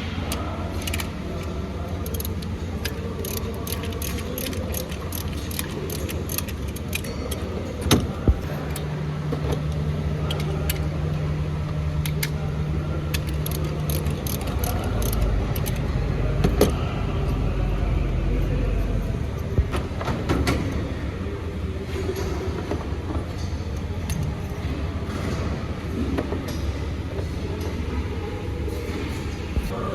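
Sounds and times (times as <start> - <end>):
car engine humming: 0.0 - 26.4.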